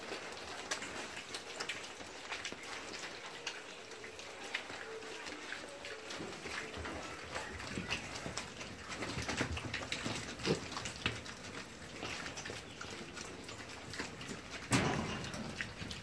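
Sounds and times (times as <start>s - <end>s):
piglets scuffling and snuffling: 0.0s - 16.0s.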